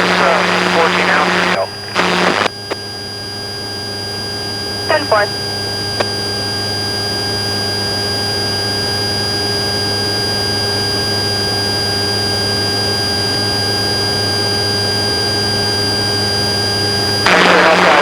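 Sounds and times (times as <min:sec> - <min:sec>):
airplane engine and propeller drone: 0:00.0 - 0:18.0
constant high whine: 0:00.0 - 0:18.0.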